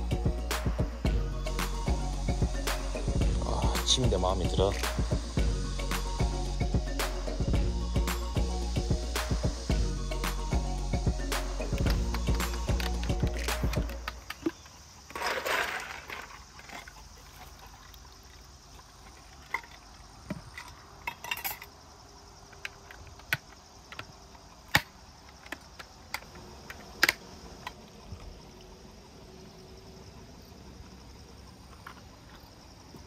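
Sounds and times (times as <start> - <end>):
insects humming: 0.0 - 33.0.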